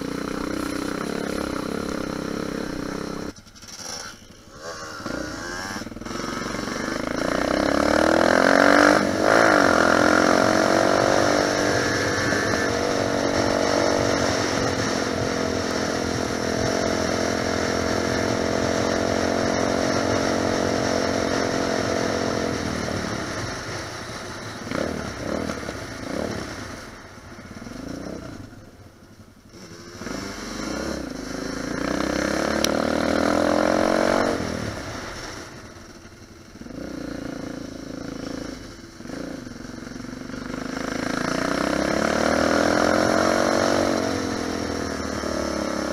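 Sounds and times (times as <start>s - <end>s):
dirt bike engine revving: 0.0s - 23.8s, 24.6s - 26.8s, 29.5s - 35.8s, 36.5s - 45.9s.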